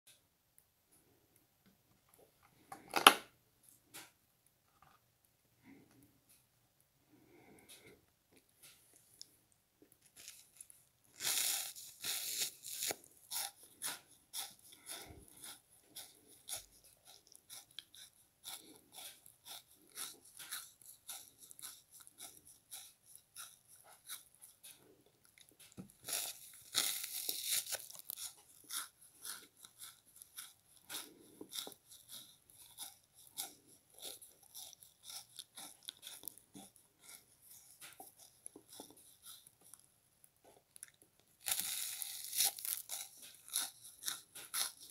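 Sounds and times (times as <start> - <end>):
frozen sponge being chewed: 7.1 - 44.9.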